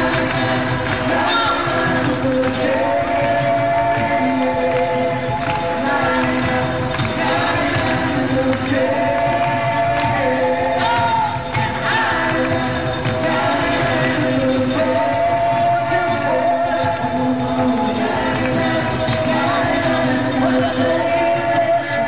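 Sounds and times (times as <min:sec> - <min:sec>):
voices singing long notes: 0:00.0 - 0:22.0.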